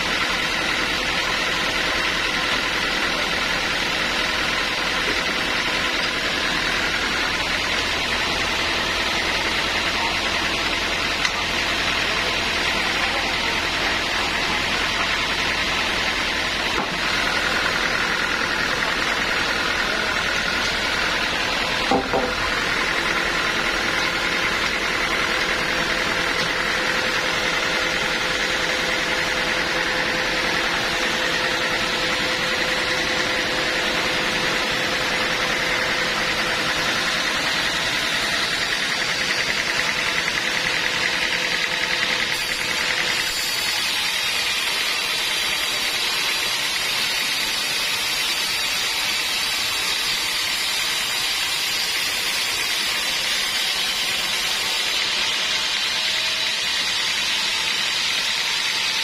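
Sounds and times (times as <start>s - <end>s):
sawmill machinery hum and whine: 0.0s - 59.0s.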